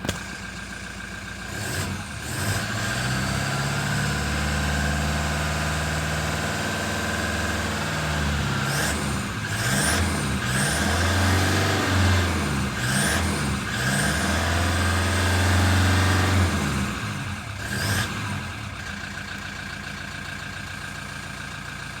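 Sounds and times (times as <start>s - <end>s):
engine idling and revving: 0.0s - 22.0s.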